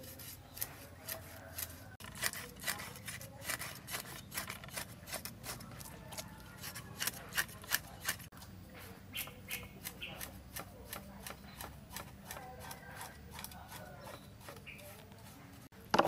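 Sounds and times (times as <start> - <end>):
cleaver scraping fish scales: 0.0 - 15.8.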